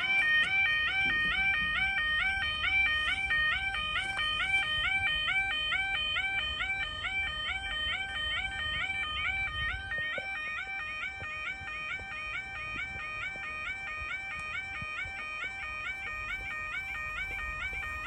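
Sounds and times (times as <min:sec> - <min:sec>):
level crossing alarm two-tone warble: 0:00.0 - 0:18.0.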